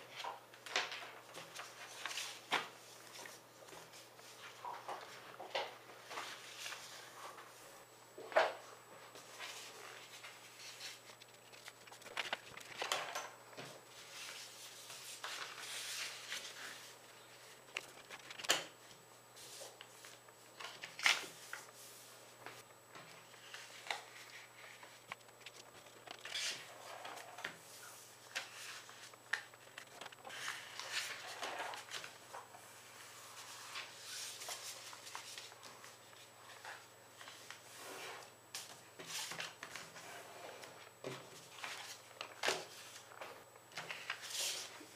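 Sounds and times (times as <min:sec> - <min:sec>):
paper rustling and crinkling: 0:00.1 - 0:07.6, 0:08.5 - 0:18.8, 0:19.4 - 0:37.7, 0:38.6 - 0:44.9.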